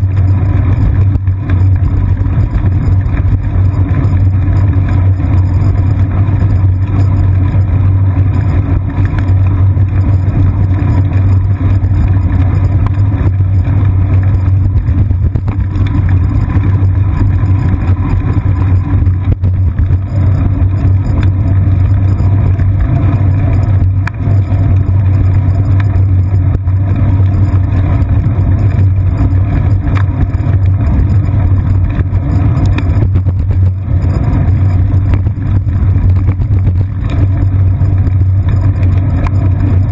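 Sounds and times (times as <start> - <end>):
wind and road vibration rumble: 0.0 - 39.9.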